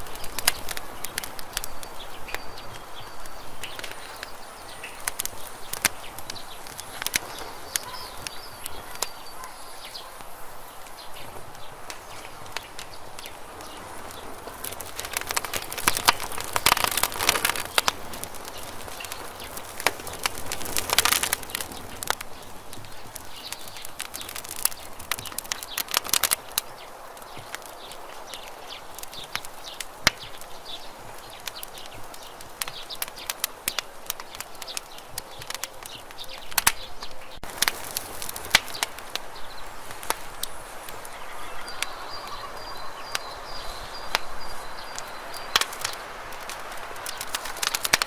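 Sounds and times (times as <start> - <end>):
campfire crackling and popping: 0.0 - 48.0
hiss of burning: 0.0 - 48.0.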